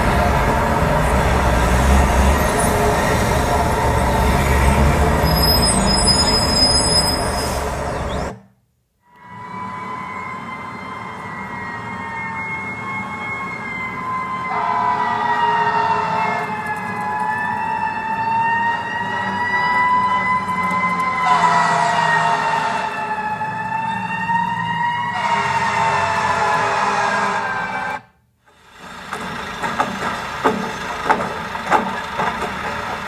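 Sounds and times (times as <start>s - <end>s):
fire engine sirens wailing: 0.0s - 8.4s, 9.1s - 28.1s.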